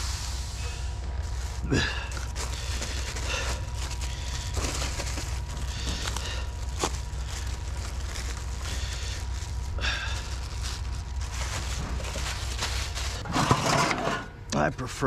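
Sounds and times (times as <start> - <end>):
steady low hum: 0.0 - 15.0
plastic bag crinkling: 0.9 - 13.2.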